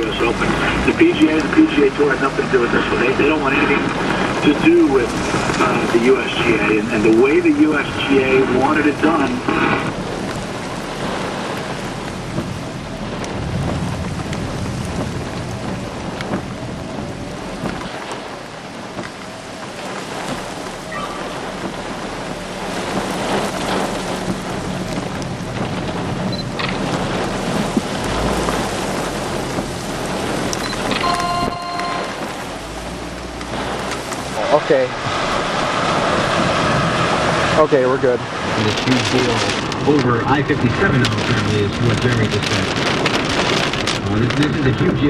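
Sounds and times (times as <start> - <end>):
heavy rain: 0.0 - 45.0
thunder rumbling: 0.0 - 45.0.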